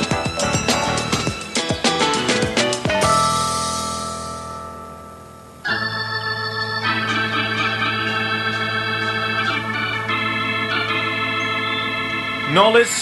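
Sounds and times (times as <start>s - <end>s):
organ sustained chords: 0.0s - 13.0s
held chord: 2.1s - 13.0s.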